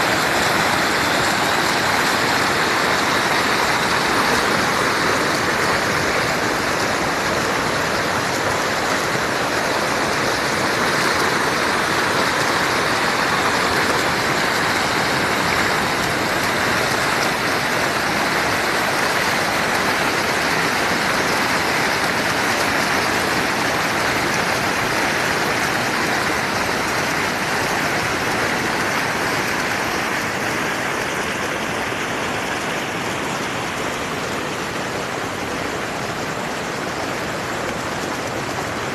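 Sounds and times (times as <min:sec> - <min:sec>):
water rushing at dam: 0:00.0 - 0:38.9.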